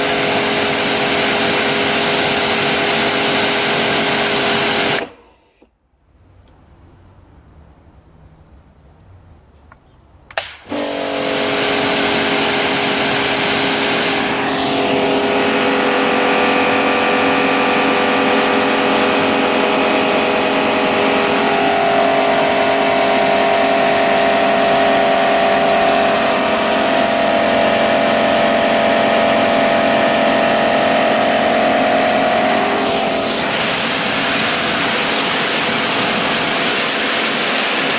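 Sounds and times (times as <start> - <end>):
pressure washer running: 0.0 - 5.7, 10.4 - 37.9.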